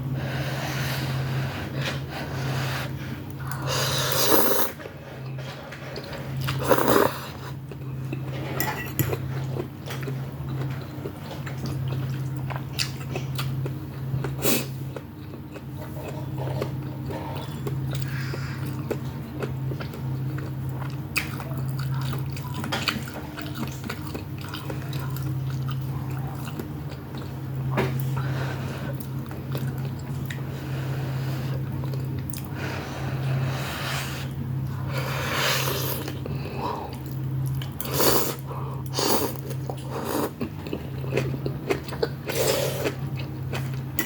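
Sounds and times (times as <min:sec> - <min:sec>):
chewing noodles: 0:03.2 - 0:32.5, 0:34.6 - 0:44.0.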